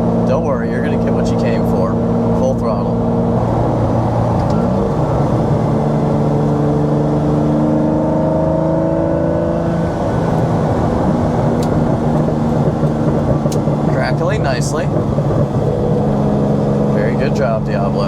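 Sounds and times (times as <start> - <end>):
car engine revving: 0.0 - 18.0
exhaust crackle: 0.0 - 18.0.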